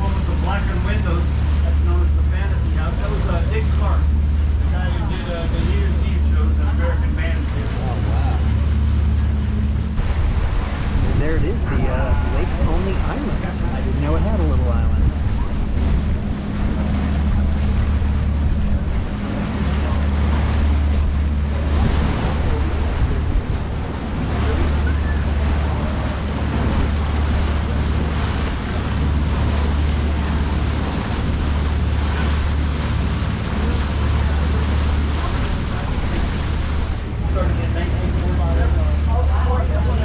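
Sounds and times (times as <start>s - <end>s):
low boat rumble: 0.0s - 40.0s
water rushing along hull: 0.0s - 40.0s
wind buffeting microphone: 0.0s - 40.0s.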